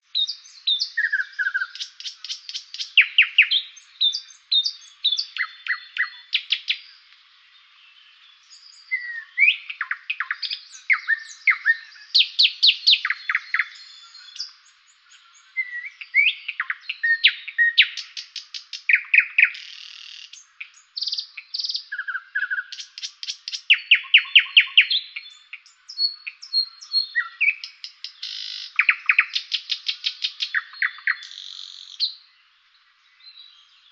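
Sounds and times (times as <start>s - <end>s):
songbirds chirping and singing: 0.0s - 33.9s.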